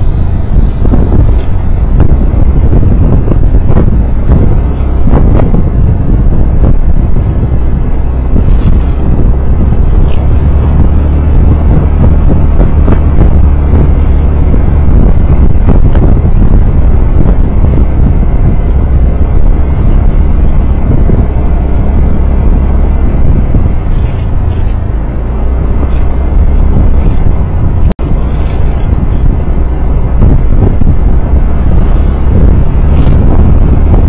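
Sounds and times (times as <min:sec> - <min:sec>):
vehicle rumbling on road: 0:00.0 - 0:34.0
wind buffeting microphone: 0:00.0 - 0:34.0.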